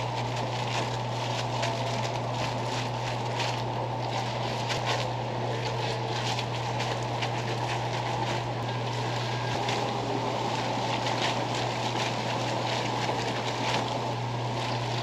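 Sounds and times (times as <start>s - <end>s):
constant low hum: 0.0s - 15.0s
deep-frying sizzling and crackles: 0.0s - 15.0s.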